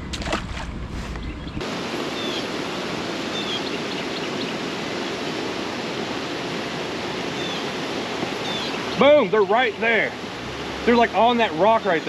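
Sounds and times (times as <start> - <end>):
waterfall pouring over rocks: 1.6 - 12.0.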